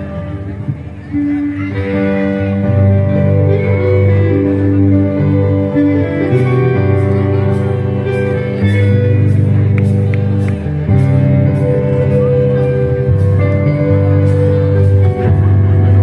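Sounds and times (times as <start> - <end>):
live band playing slow song: 0.0 - 16.0.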